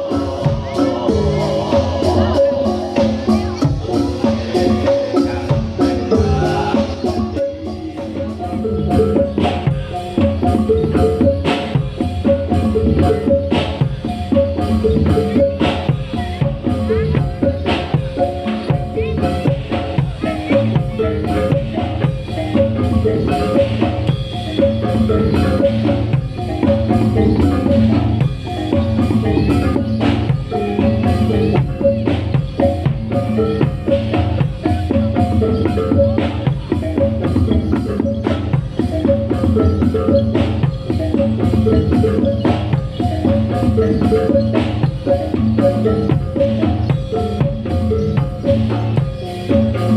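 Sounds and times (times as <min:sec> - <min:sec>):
metal gongs playing a pattern: 0:00.0 - 0:49.9
steady drumming: 0:00.0 - 0:49.9.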